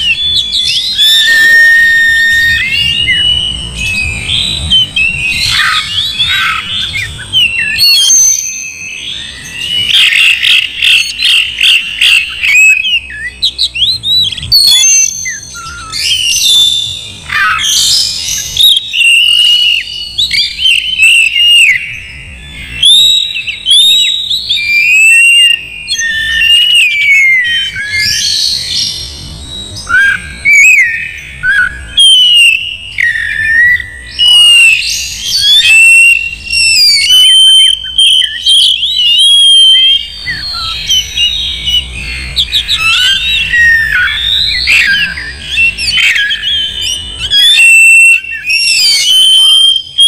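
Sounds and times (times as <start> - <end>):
magpie-robin singing: 0.0 - 50.0.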